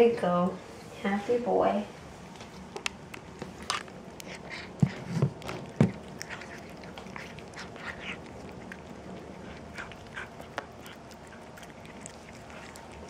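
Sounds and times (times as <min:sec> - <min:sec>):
cat chewing crunchy treats: 0:02.5 - 0:13.0.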